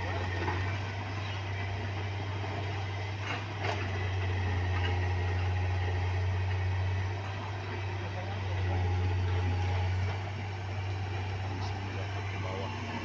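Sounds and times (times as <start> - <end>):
heavy engine humming: 0.0 - 13.0.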